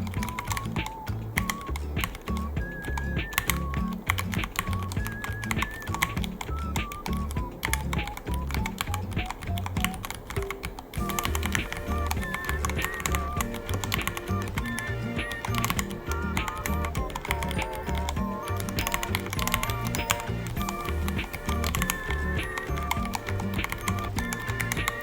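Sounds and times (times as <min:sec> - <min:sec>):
background music with bass beat: 0:00.0 - 0:25.0
mechanical keyboard typing: 0:00.0 - 0:25.0.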